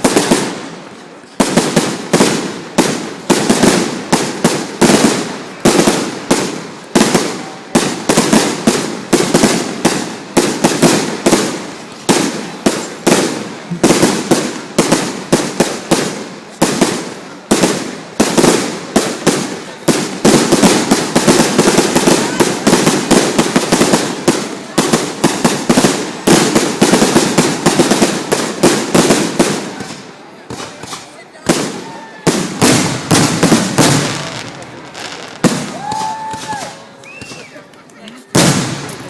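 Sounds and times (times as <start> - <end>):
fireworks banging: 0.0 - 39.0.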